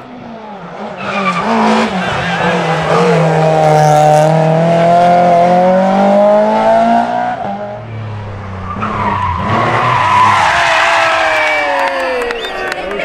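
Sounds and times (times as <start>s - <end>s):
tyres skidding and squealing: 0.0s - 4.9s, 7.3s - 13.0s
rally car engine revving: 0.0s - 11.4s.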